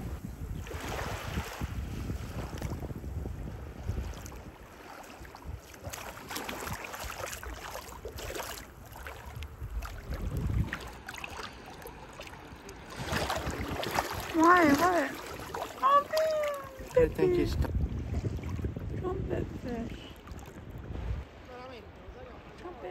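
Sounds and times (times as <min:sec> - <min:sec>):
wind gusting on microphone: 0:00.0 - 0:08.2, 0:09.1 - 0:11.1, 0:12.9 - 0:22.9
seawater lapping and sloshing: 0:00.0 - 0:22.9.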